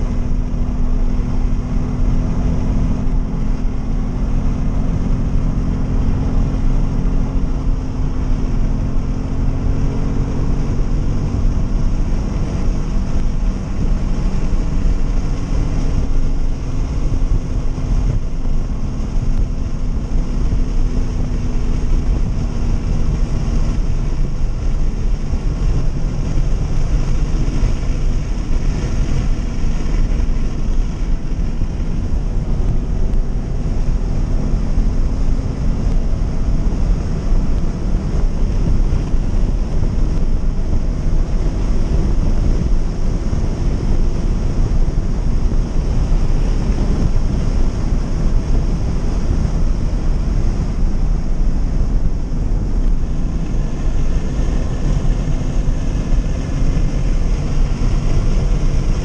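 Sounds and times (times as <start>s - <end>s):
car engine revving: 0.0s - 59.0s
wind and road noise: 0.0s - 59.0s.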